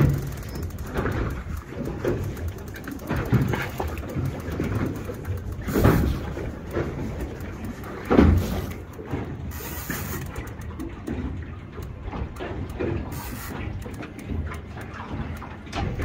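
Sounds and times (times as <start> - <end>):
fishing reel clicking: 0.0 - 11.2, 11.8 - 15.5
boat and sea noise: 0.0 - 16.0.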